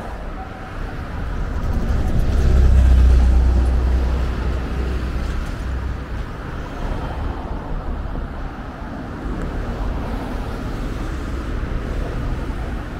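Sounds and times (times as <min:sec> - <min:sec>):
road traffic rumble: 0:00.0 - 0:12.9.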